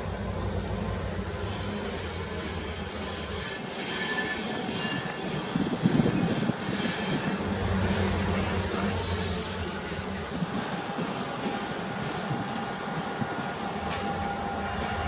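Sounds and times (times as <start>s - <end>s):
railway cars rattling: 0.0s - 15.0s
train wheels squealing: 0.3s - 15.0s.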